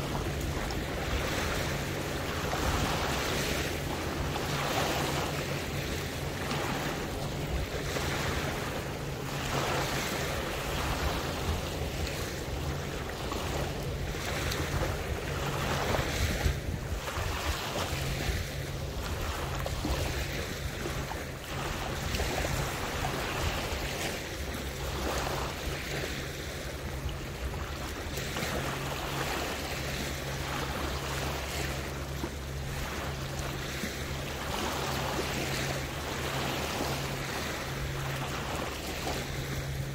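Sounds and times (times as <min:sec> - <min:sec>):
steady low hum: 0:00.0 - 0:39.9
water lapping: 0:00.0 - 0:39.9.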